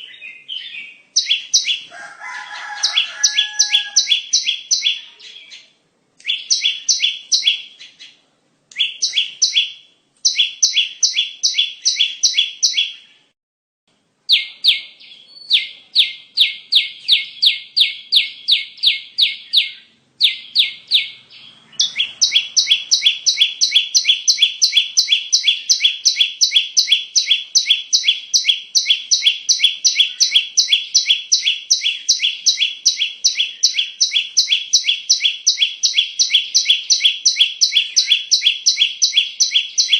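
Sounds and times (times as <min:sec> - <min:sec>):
bird song sharp repeated notes: 0:00.0 - 0:01.9, 0:02.7 - 0:13.3, 0:14.3 - 0:39.9.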